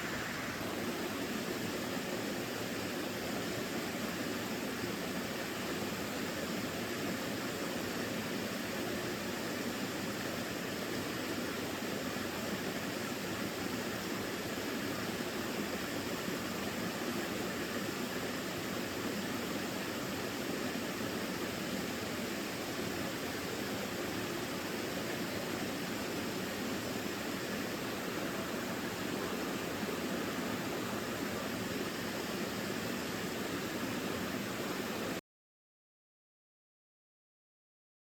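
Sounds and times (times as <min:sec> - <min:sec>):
stream water running: 0:00.0 - 0:35.2.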